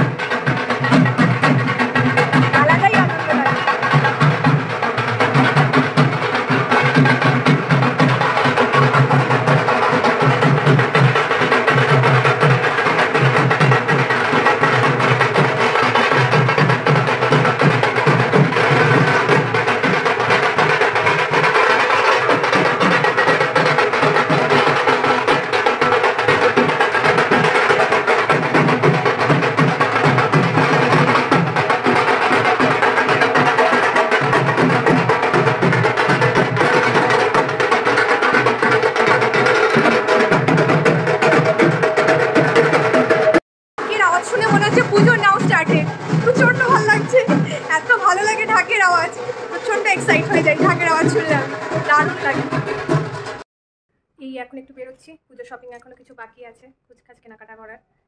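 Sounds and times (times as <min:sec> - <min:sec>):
drums beaten with sticks: 0:00.0 - 0:53.4.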